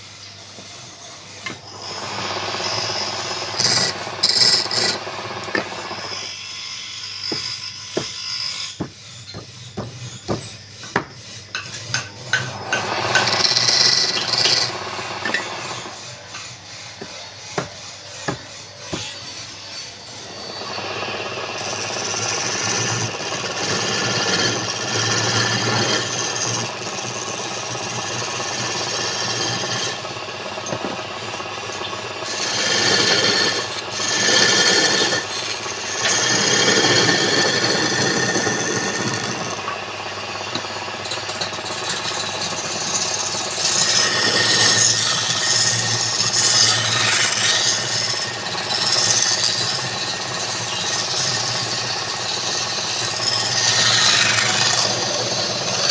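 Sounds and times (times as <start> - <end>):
lathe tool rasping on wood: 0.0 - 55.9.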